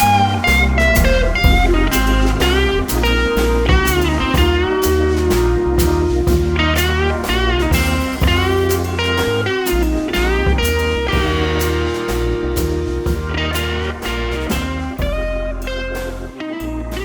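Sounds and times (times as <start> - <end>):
electric guitar music with drums: 0.0 - 17.0.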